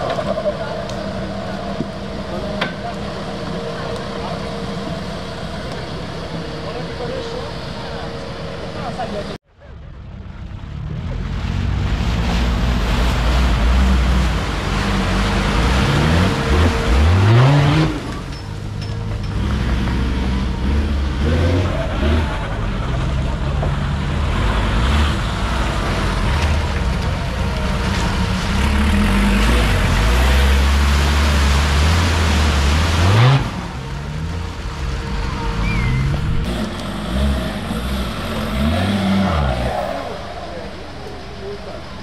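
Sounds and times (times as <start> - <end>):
truck engine revving: 0.0 - 9.4, 10.0 - 42.0.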